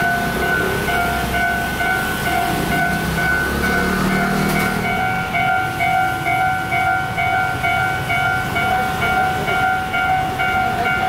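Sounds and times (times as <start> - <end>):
level-crossing warning bell ringing: 0.0 - 11.0.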